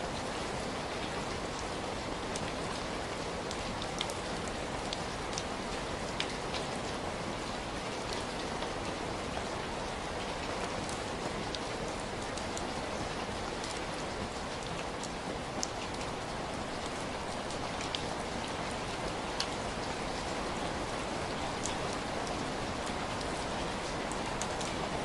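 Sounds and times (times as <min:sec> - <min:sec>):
heavy rain: 0:00.0 - 0:25.0
raindrops ticking on a surface: 0:00.0 - 0:25.0.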